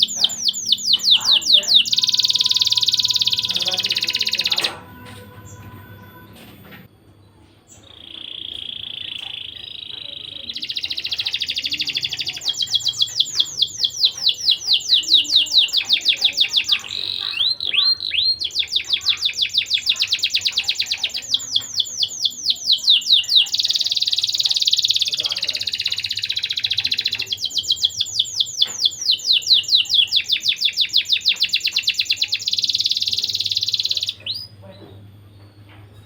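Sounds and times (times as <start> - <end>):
canary singing trills: 0.0 - 6.6, 7.3 - 36.0.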